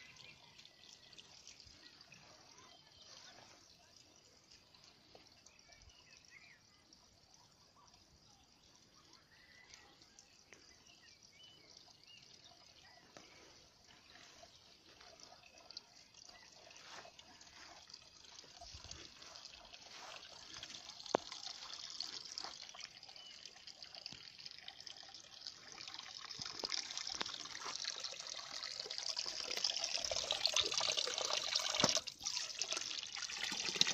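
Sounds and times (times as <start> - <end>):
water trickling into stone basin: 0.0 - 33.9.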